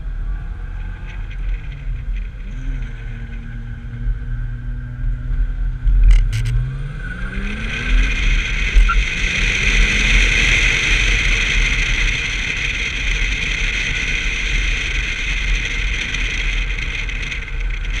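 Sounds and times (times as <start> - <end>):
car engine accelerating: 0.0 - 18.0
wind and road noise: 0.0 - 18.0.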